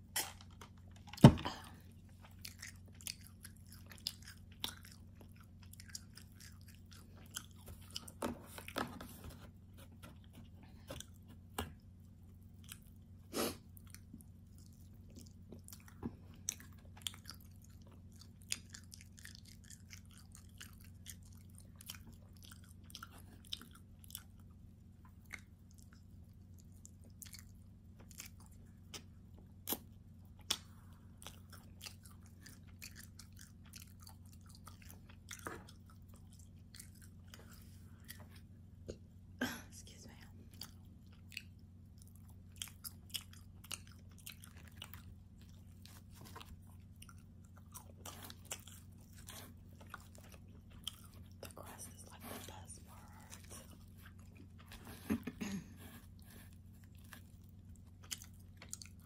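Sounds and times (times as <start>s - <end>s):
person chewing crunchy food: 0.0s - 39.1s, 39.9s - 59.0s
faint low hum: 0.0s - 59.0s.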